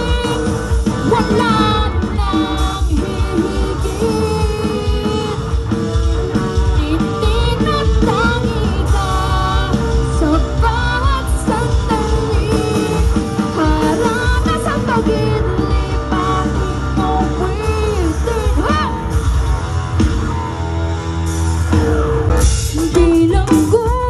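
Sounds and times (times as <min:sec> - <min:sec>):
vocalist singing: 0:00.0 - 0:19.6, 0:22.6 - 0:24.0
electric guitar: 0:00.0 - 0:24.0
live band through loudspeakers: 0:00.0 - 0:24.0.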